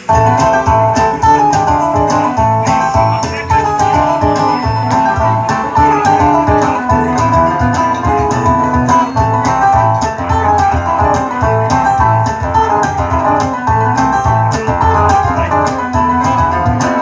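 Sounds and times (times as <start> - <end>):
bass: 0.0 - 17.0
plucked guitar melody: 0.0 - 17.0
steady drum beat: 0.0 - 17.0.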